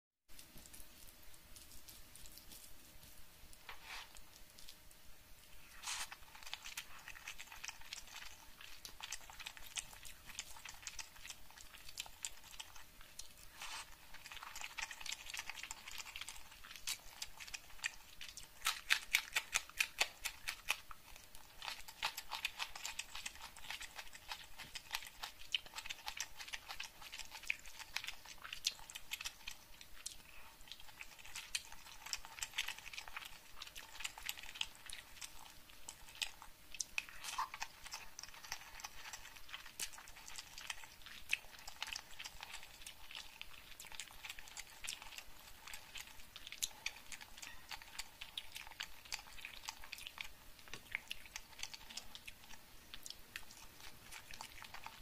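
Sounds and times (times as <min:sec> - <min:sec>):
fingers squishing rice: 0:00.3 - 0:55.0
wet chewing with mouth smacks: 0:00.3 - 0:55.0.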